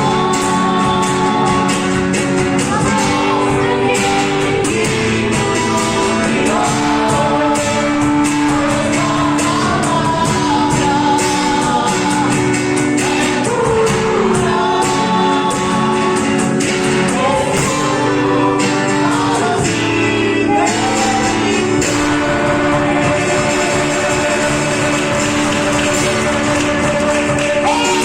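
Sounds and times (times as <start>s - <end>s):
choir singing gospel song: 0.0s - 28.0s
live band playing: 0.0s - 28.0s
steady drum beat: 0.0s - 28.0s.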